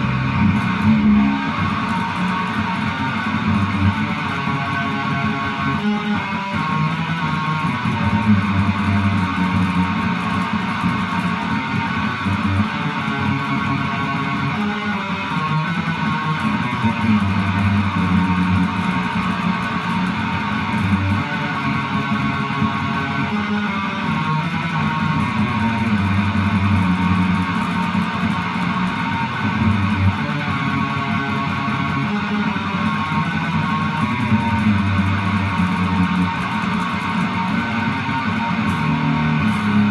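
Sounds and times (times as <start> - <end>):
steady bass line: 0.0 - 39.9
strummed guitar chords: 0.0 - 39.9.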